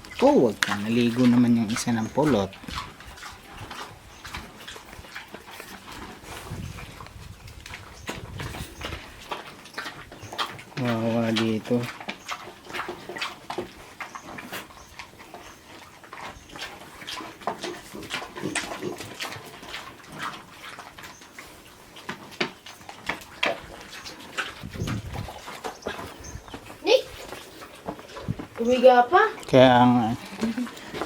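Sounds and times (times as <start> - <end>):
pigs smacking and slurping feed: 0.0 - 31.0.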